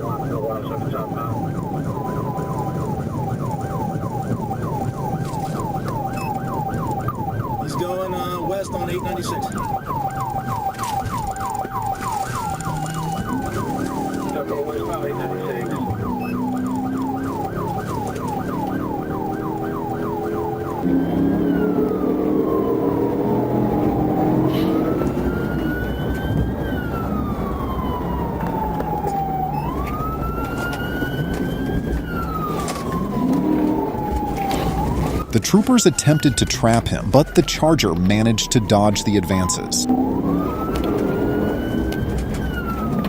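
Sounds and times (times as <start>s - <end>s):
police siren yelping and wailing: 0.0s - 43.0s.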